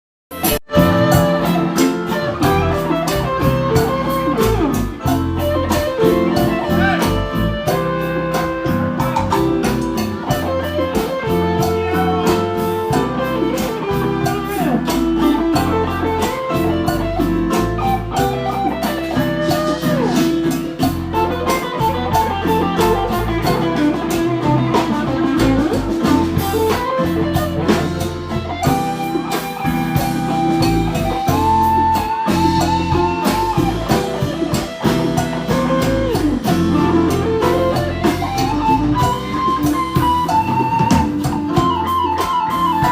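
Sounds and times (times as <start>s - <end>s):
bass guitar: 0.3s - 42.9s
drum kit: 0.3s - 42.9s
lead electric guitar: 0.3s - 42.9s.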